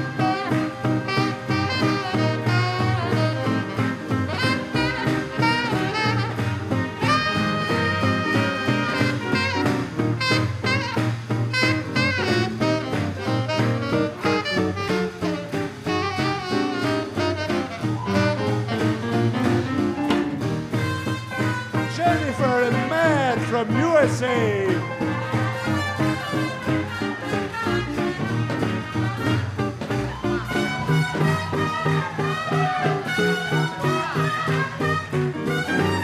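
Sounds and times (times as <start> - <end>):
saxophone: 0.0 - 36.0
swing band playing: 0.0 - 36.0.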